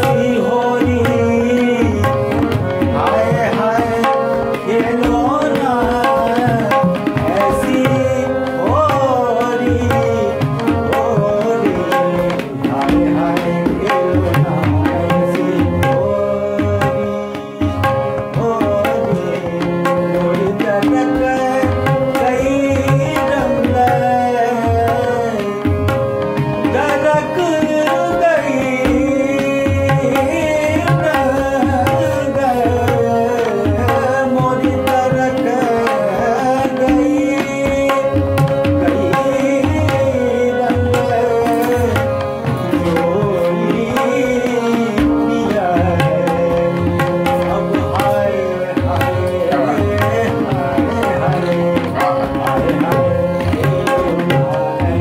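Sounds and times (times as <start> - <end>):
hand drum rhythm: 0.0 - 55.0
harmonium: 0.0 - 55.0
man singing: 0.0 - 55.0.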